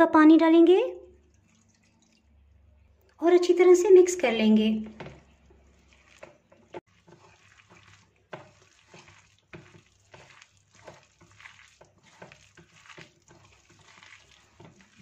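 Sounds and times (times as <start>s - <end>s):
wet crackling of mixture by hand: 1.0s - 15.0s.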